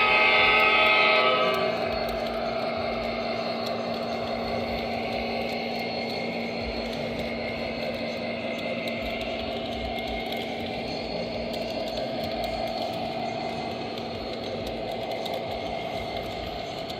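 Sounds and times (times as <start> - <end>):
low hum: 0.0 - 16.9
train wheels rumbling on rail: 0.0 - 16.9.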